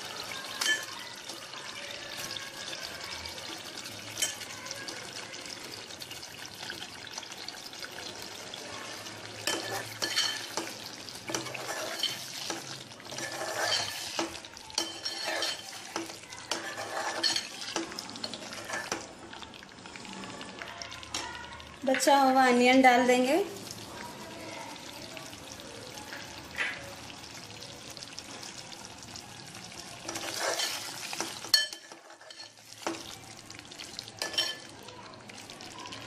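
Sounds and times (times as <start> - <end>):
gravy sizzling in a metal pot: 0.0 - 36.0.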